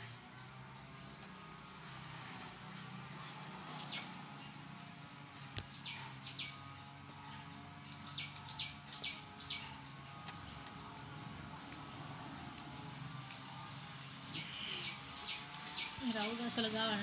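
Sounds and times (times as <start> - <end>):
bird chirps: 0.9 - 16.8.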